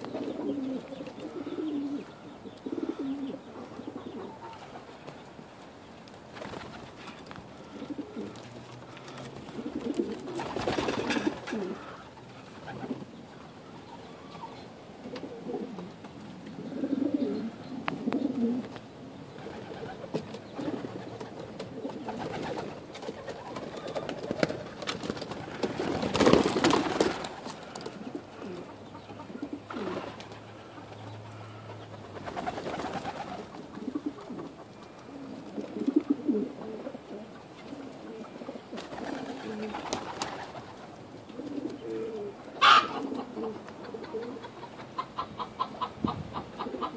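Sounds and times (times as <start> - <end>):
pigeons cooing: 0.0 - 5.3, 6.2 - 46.9.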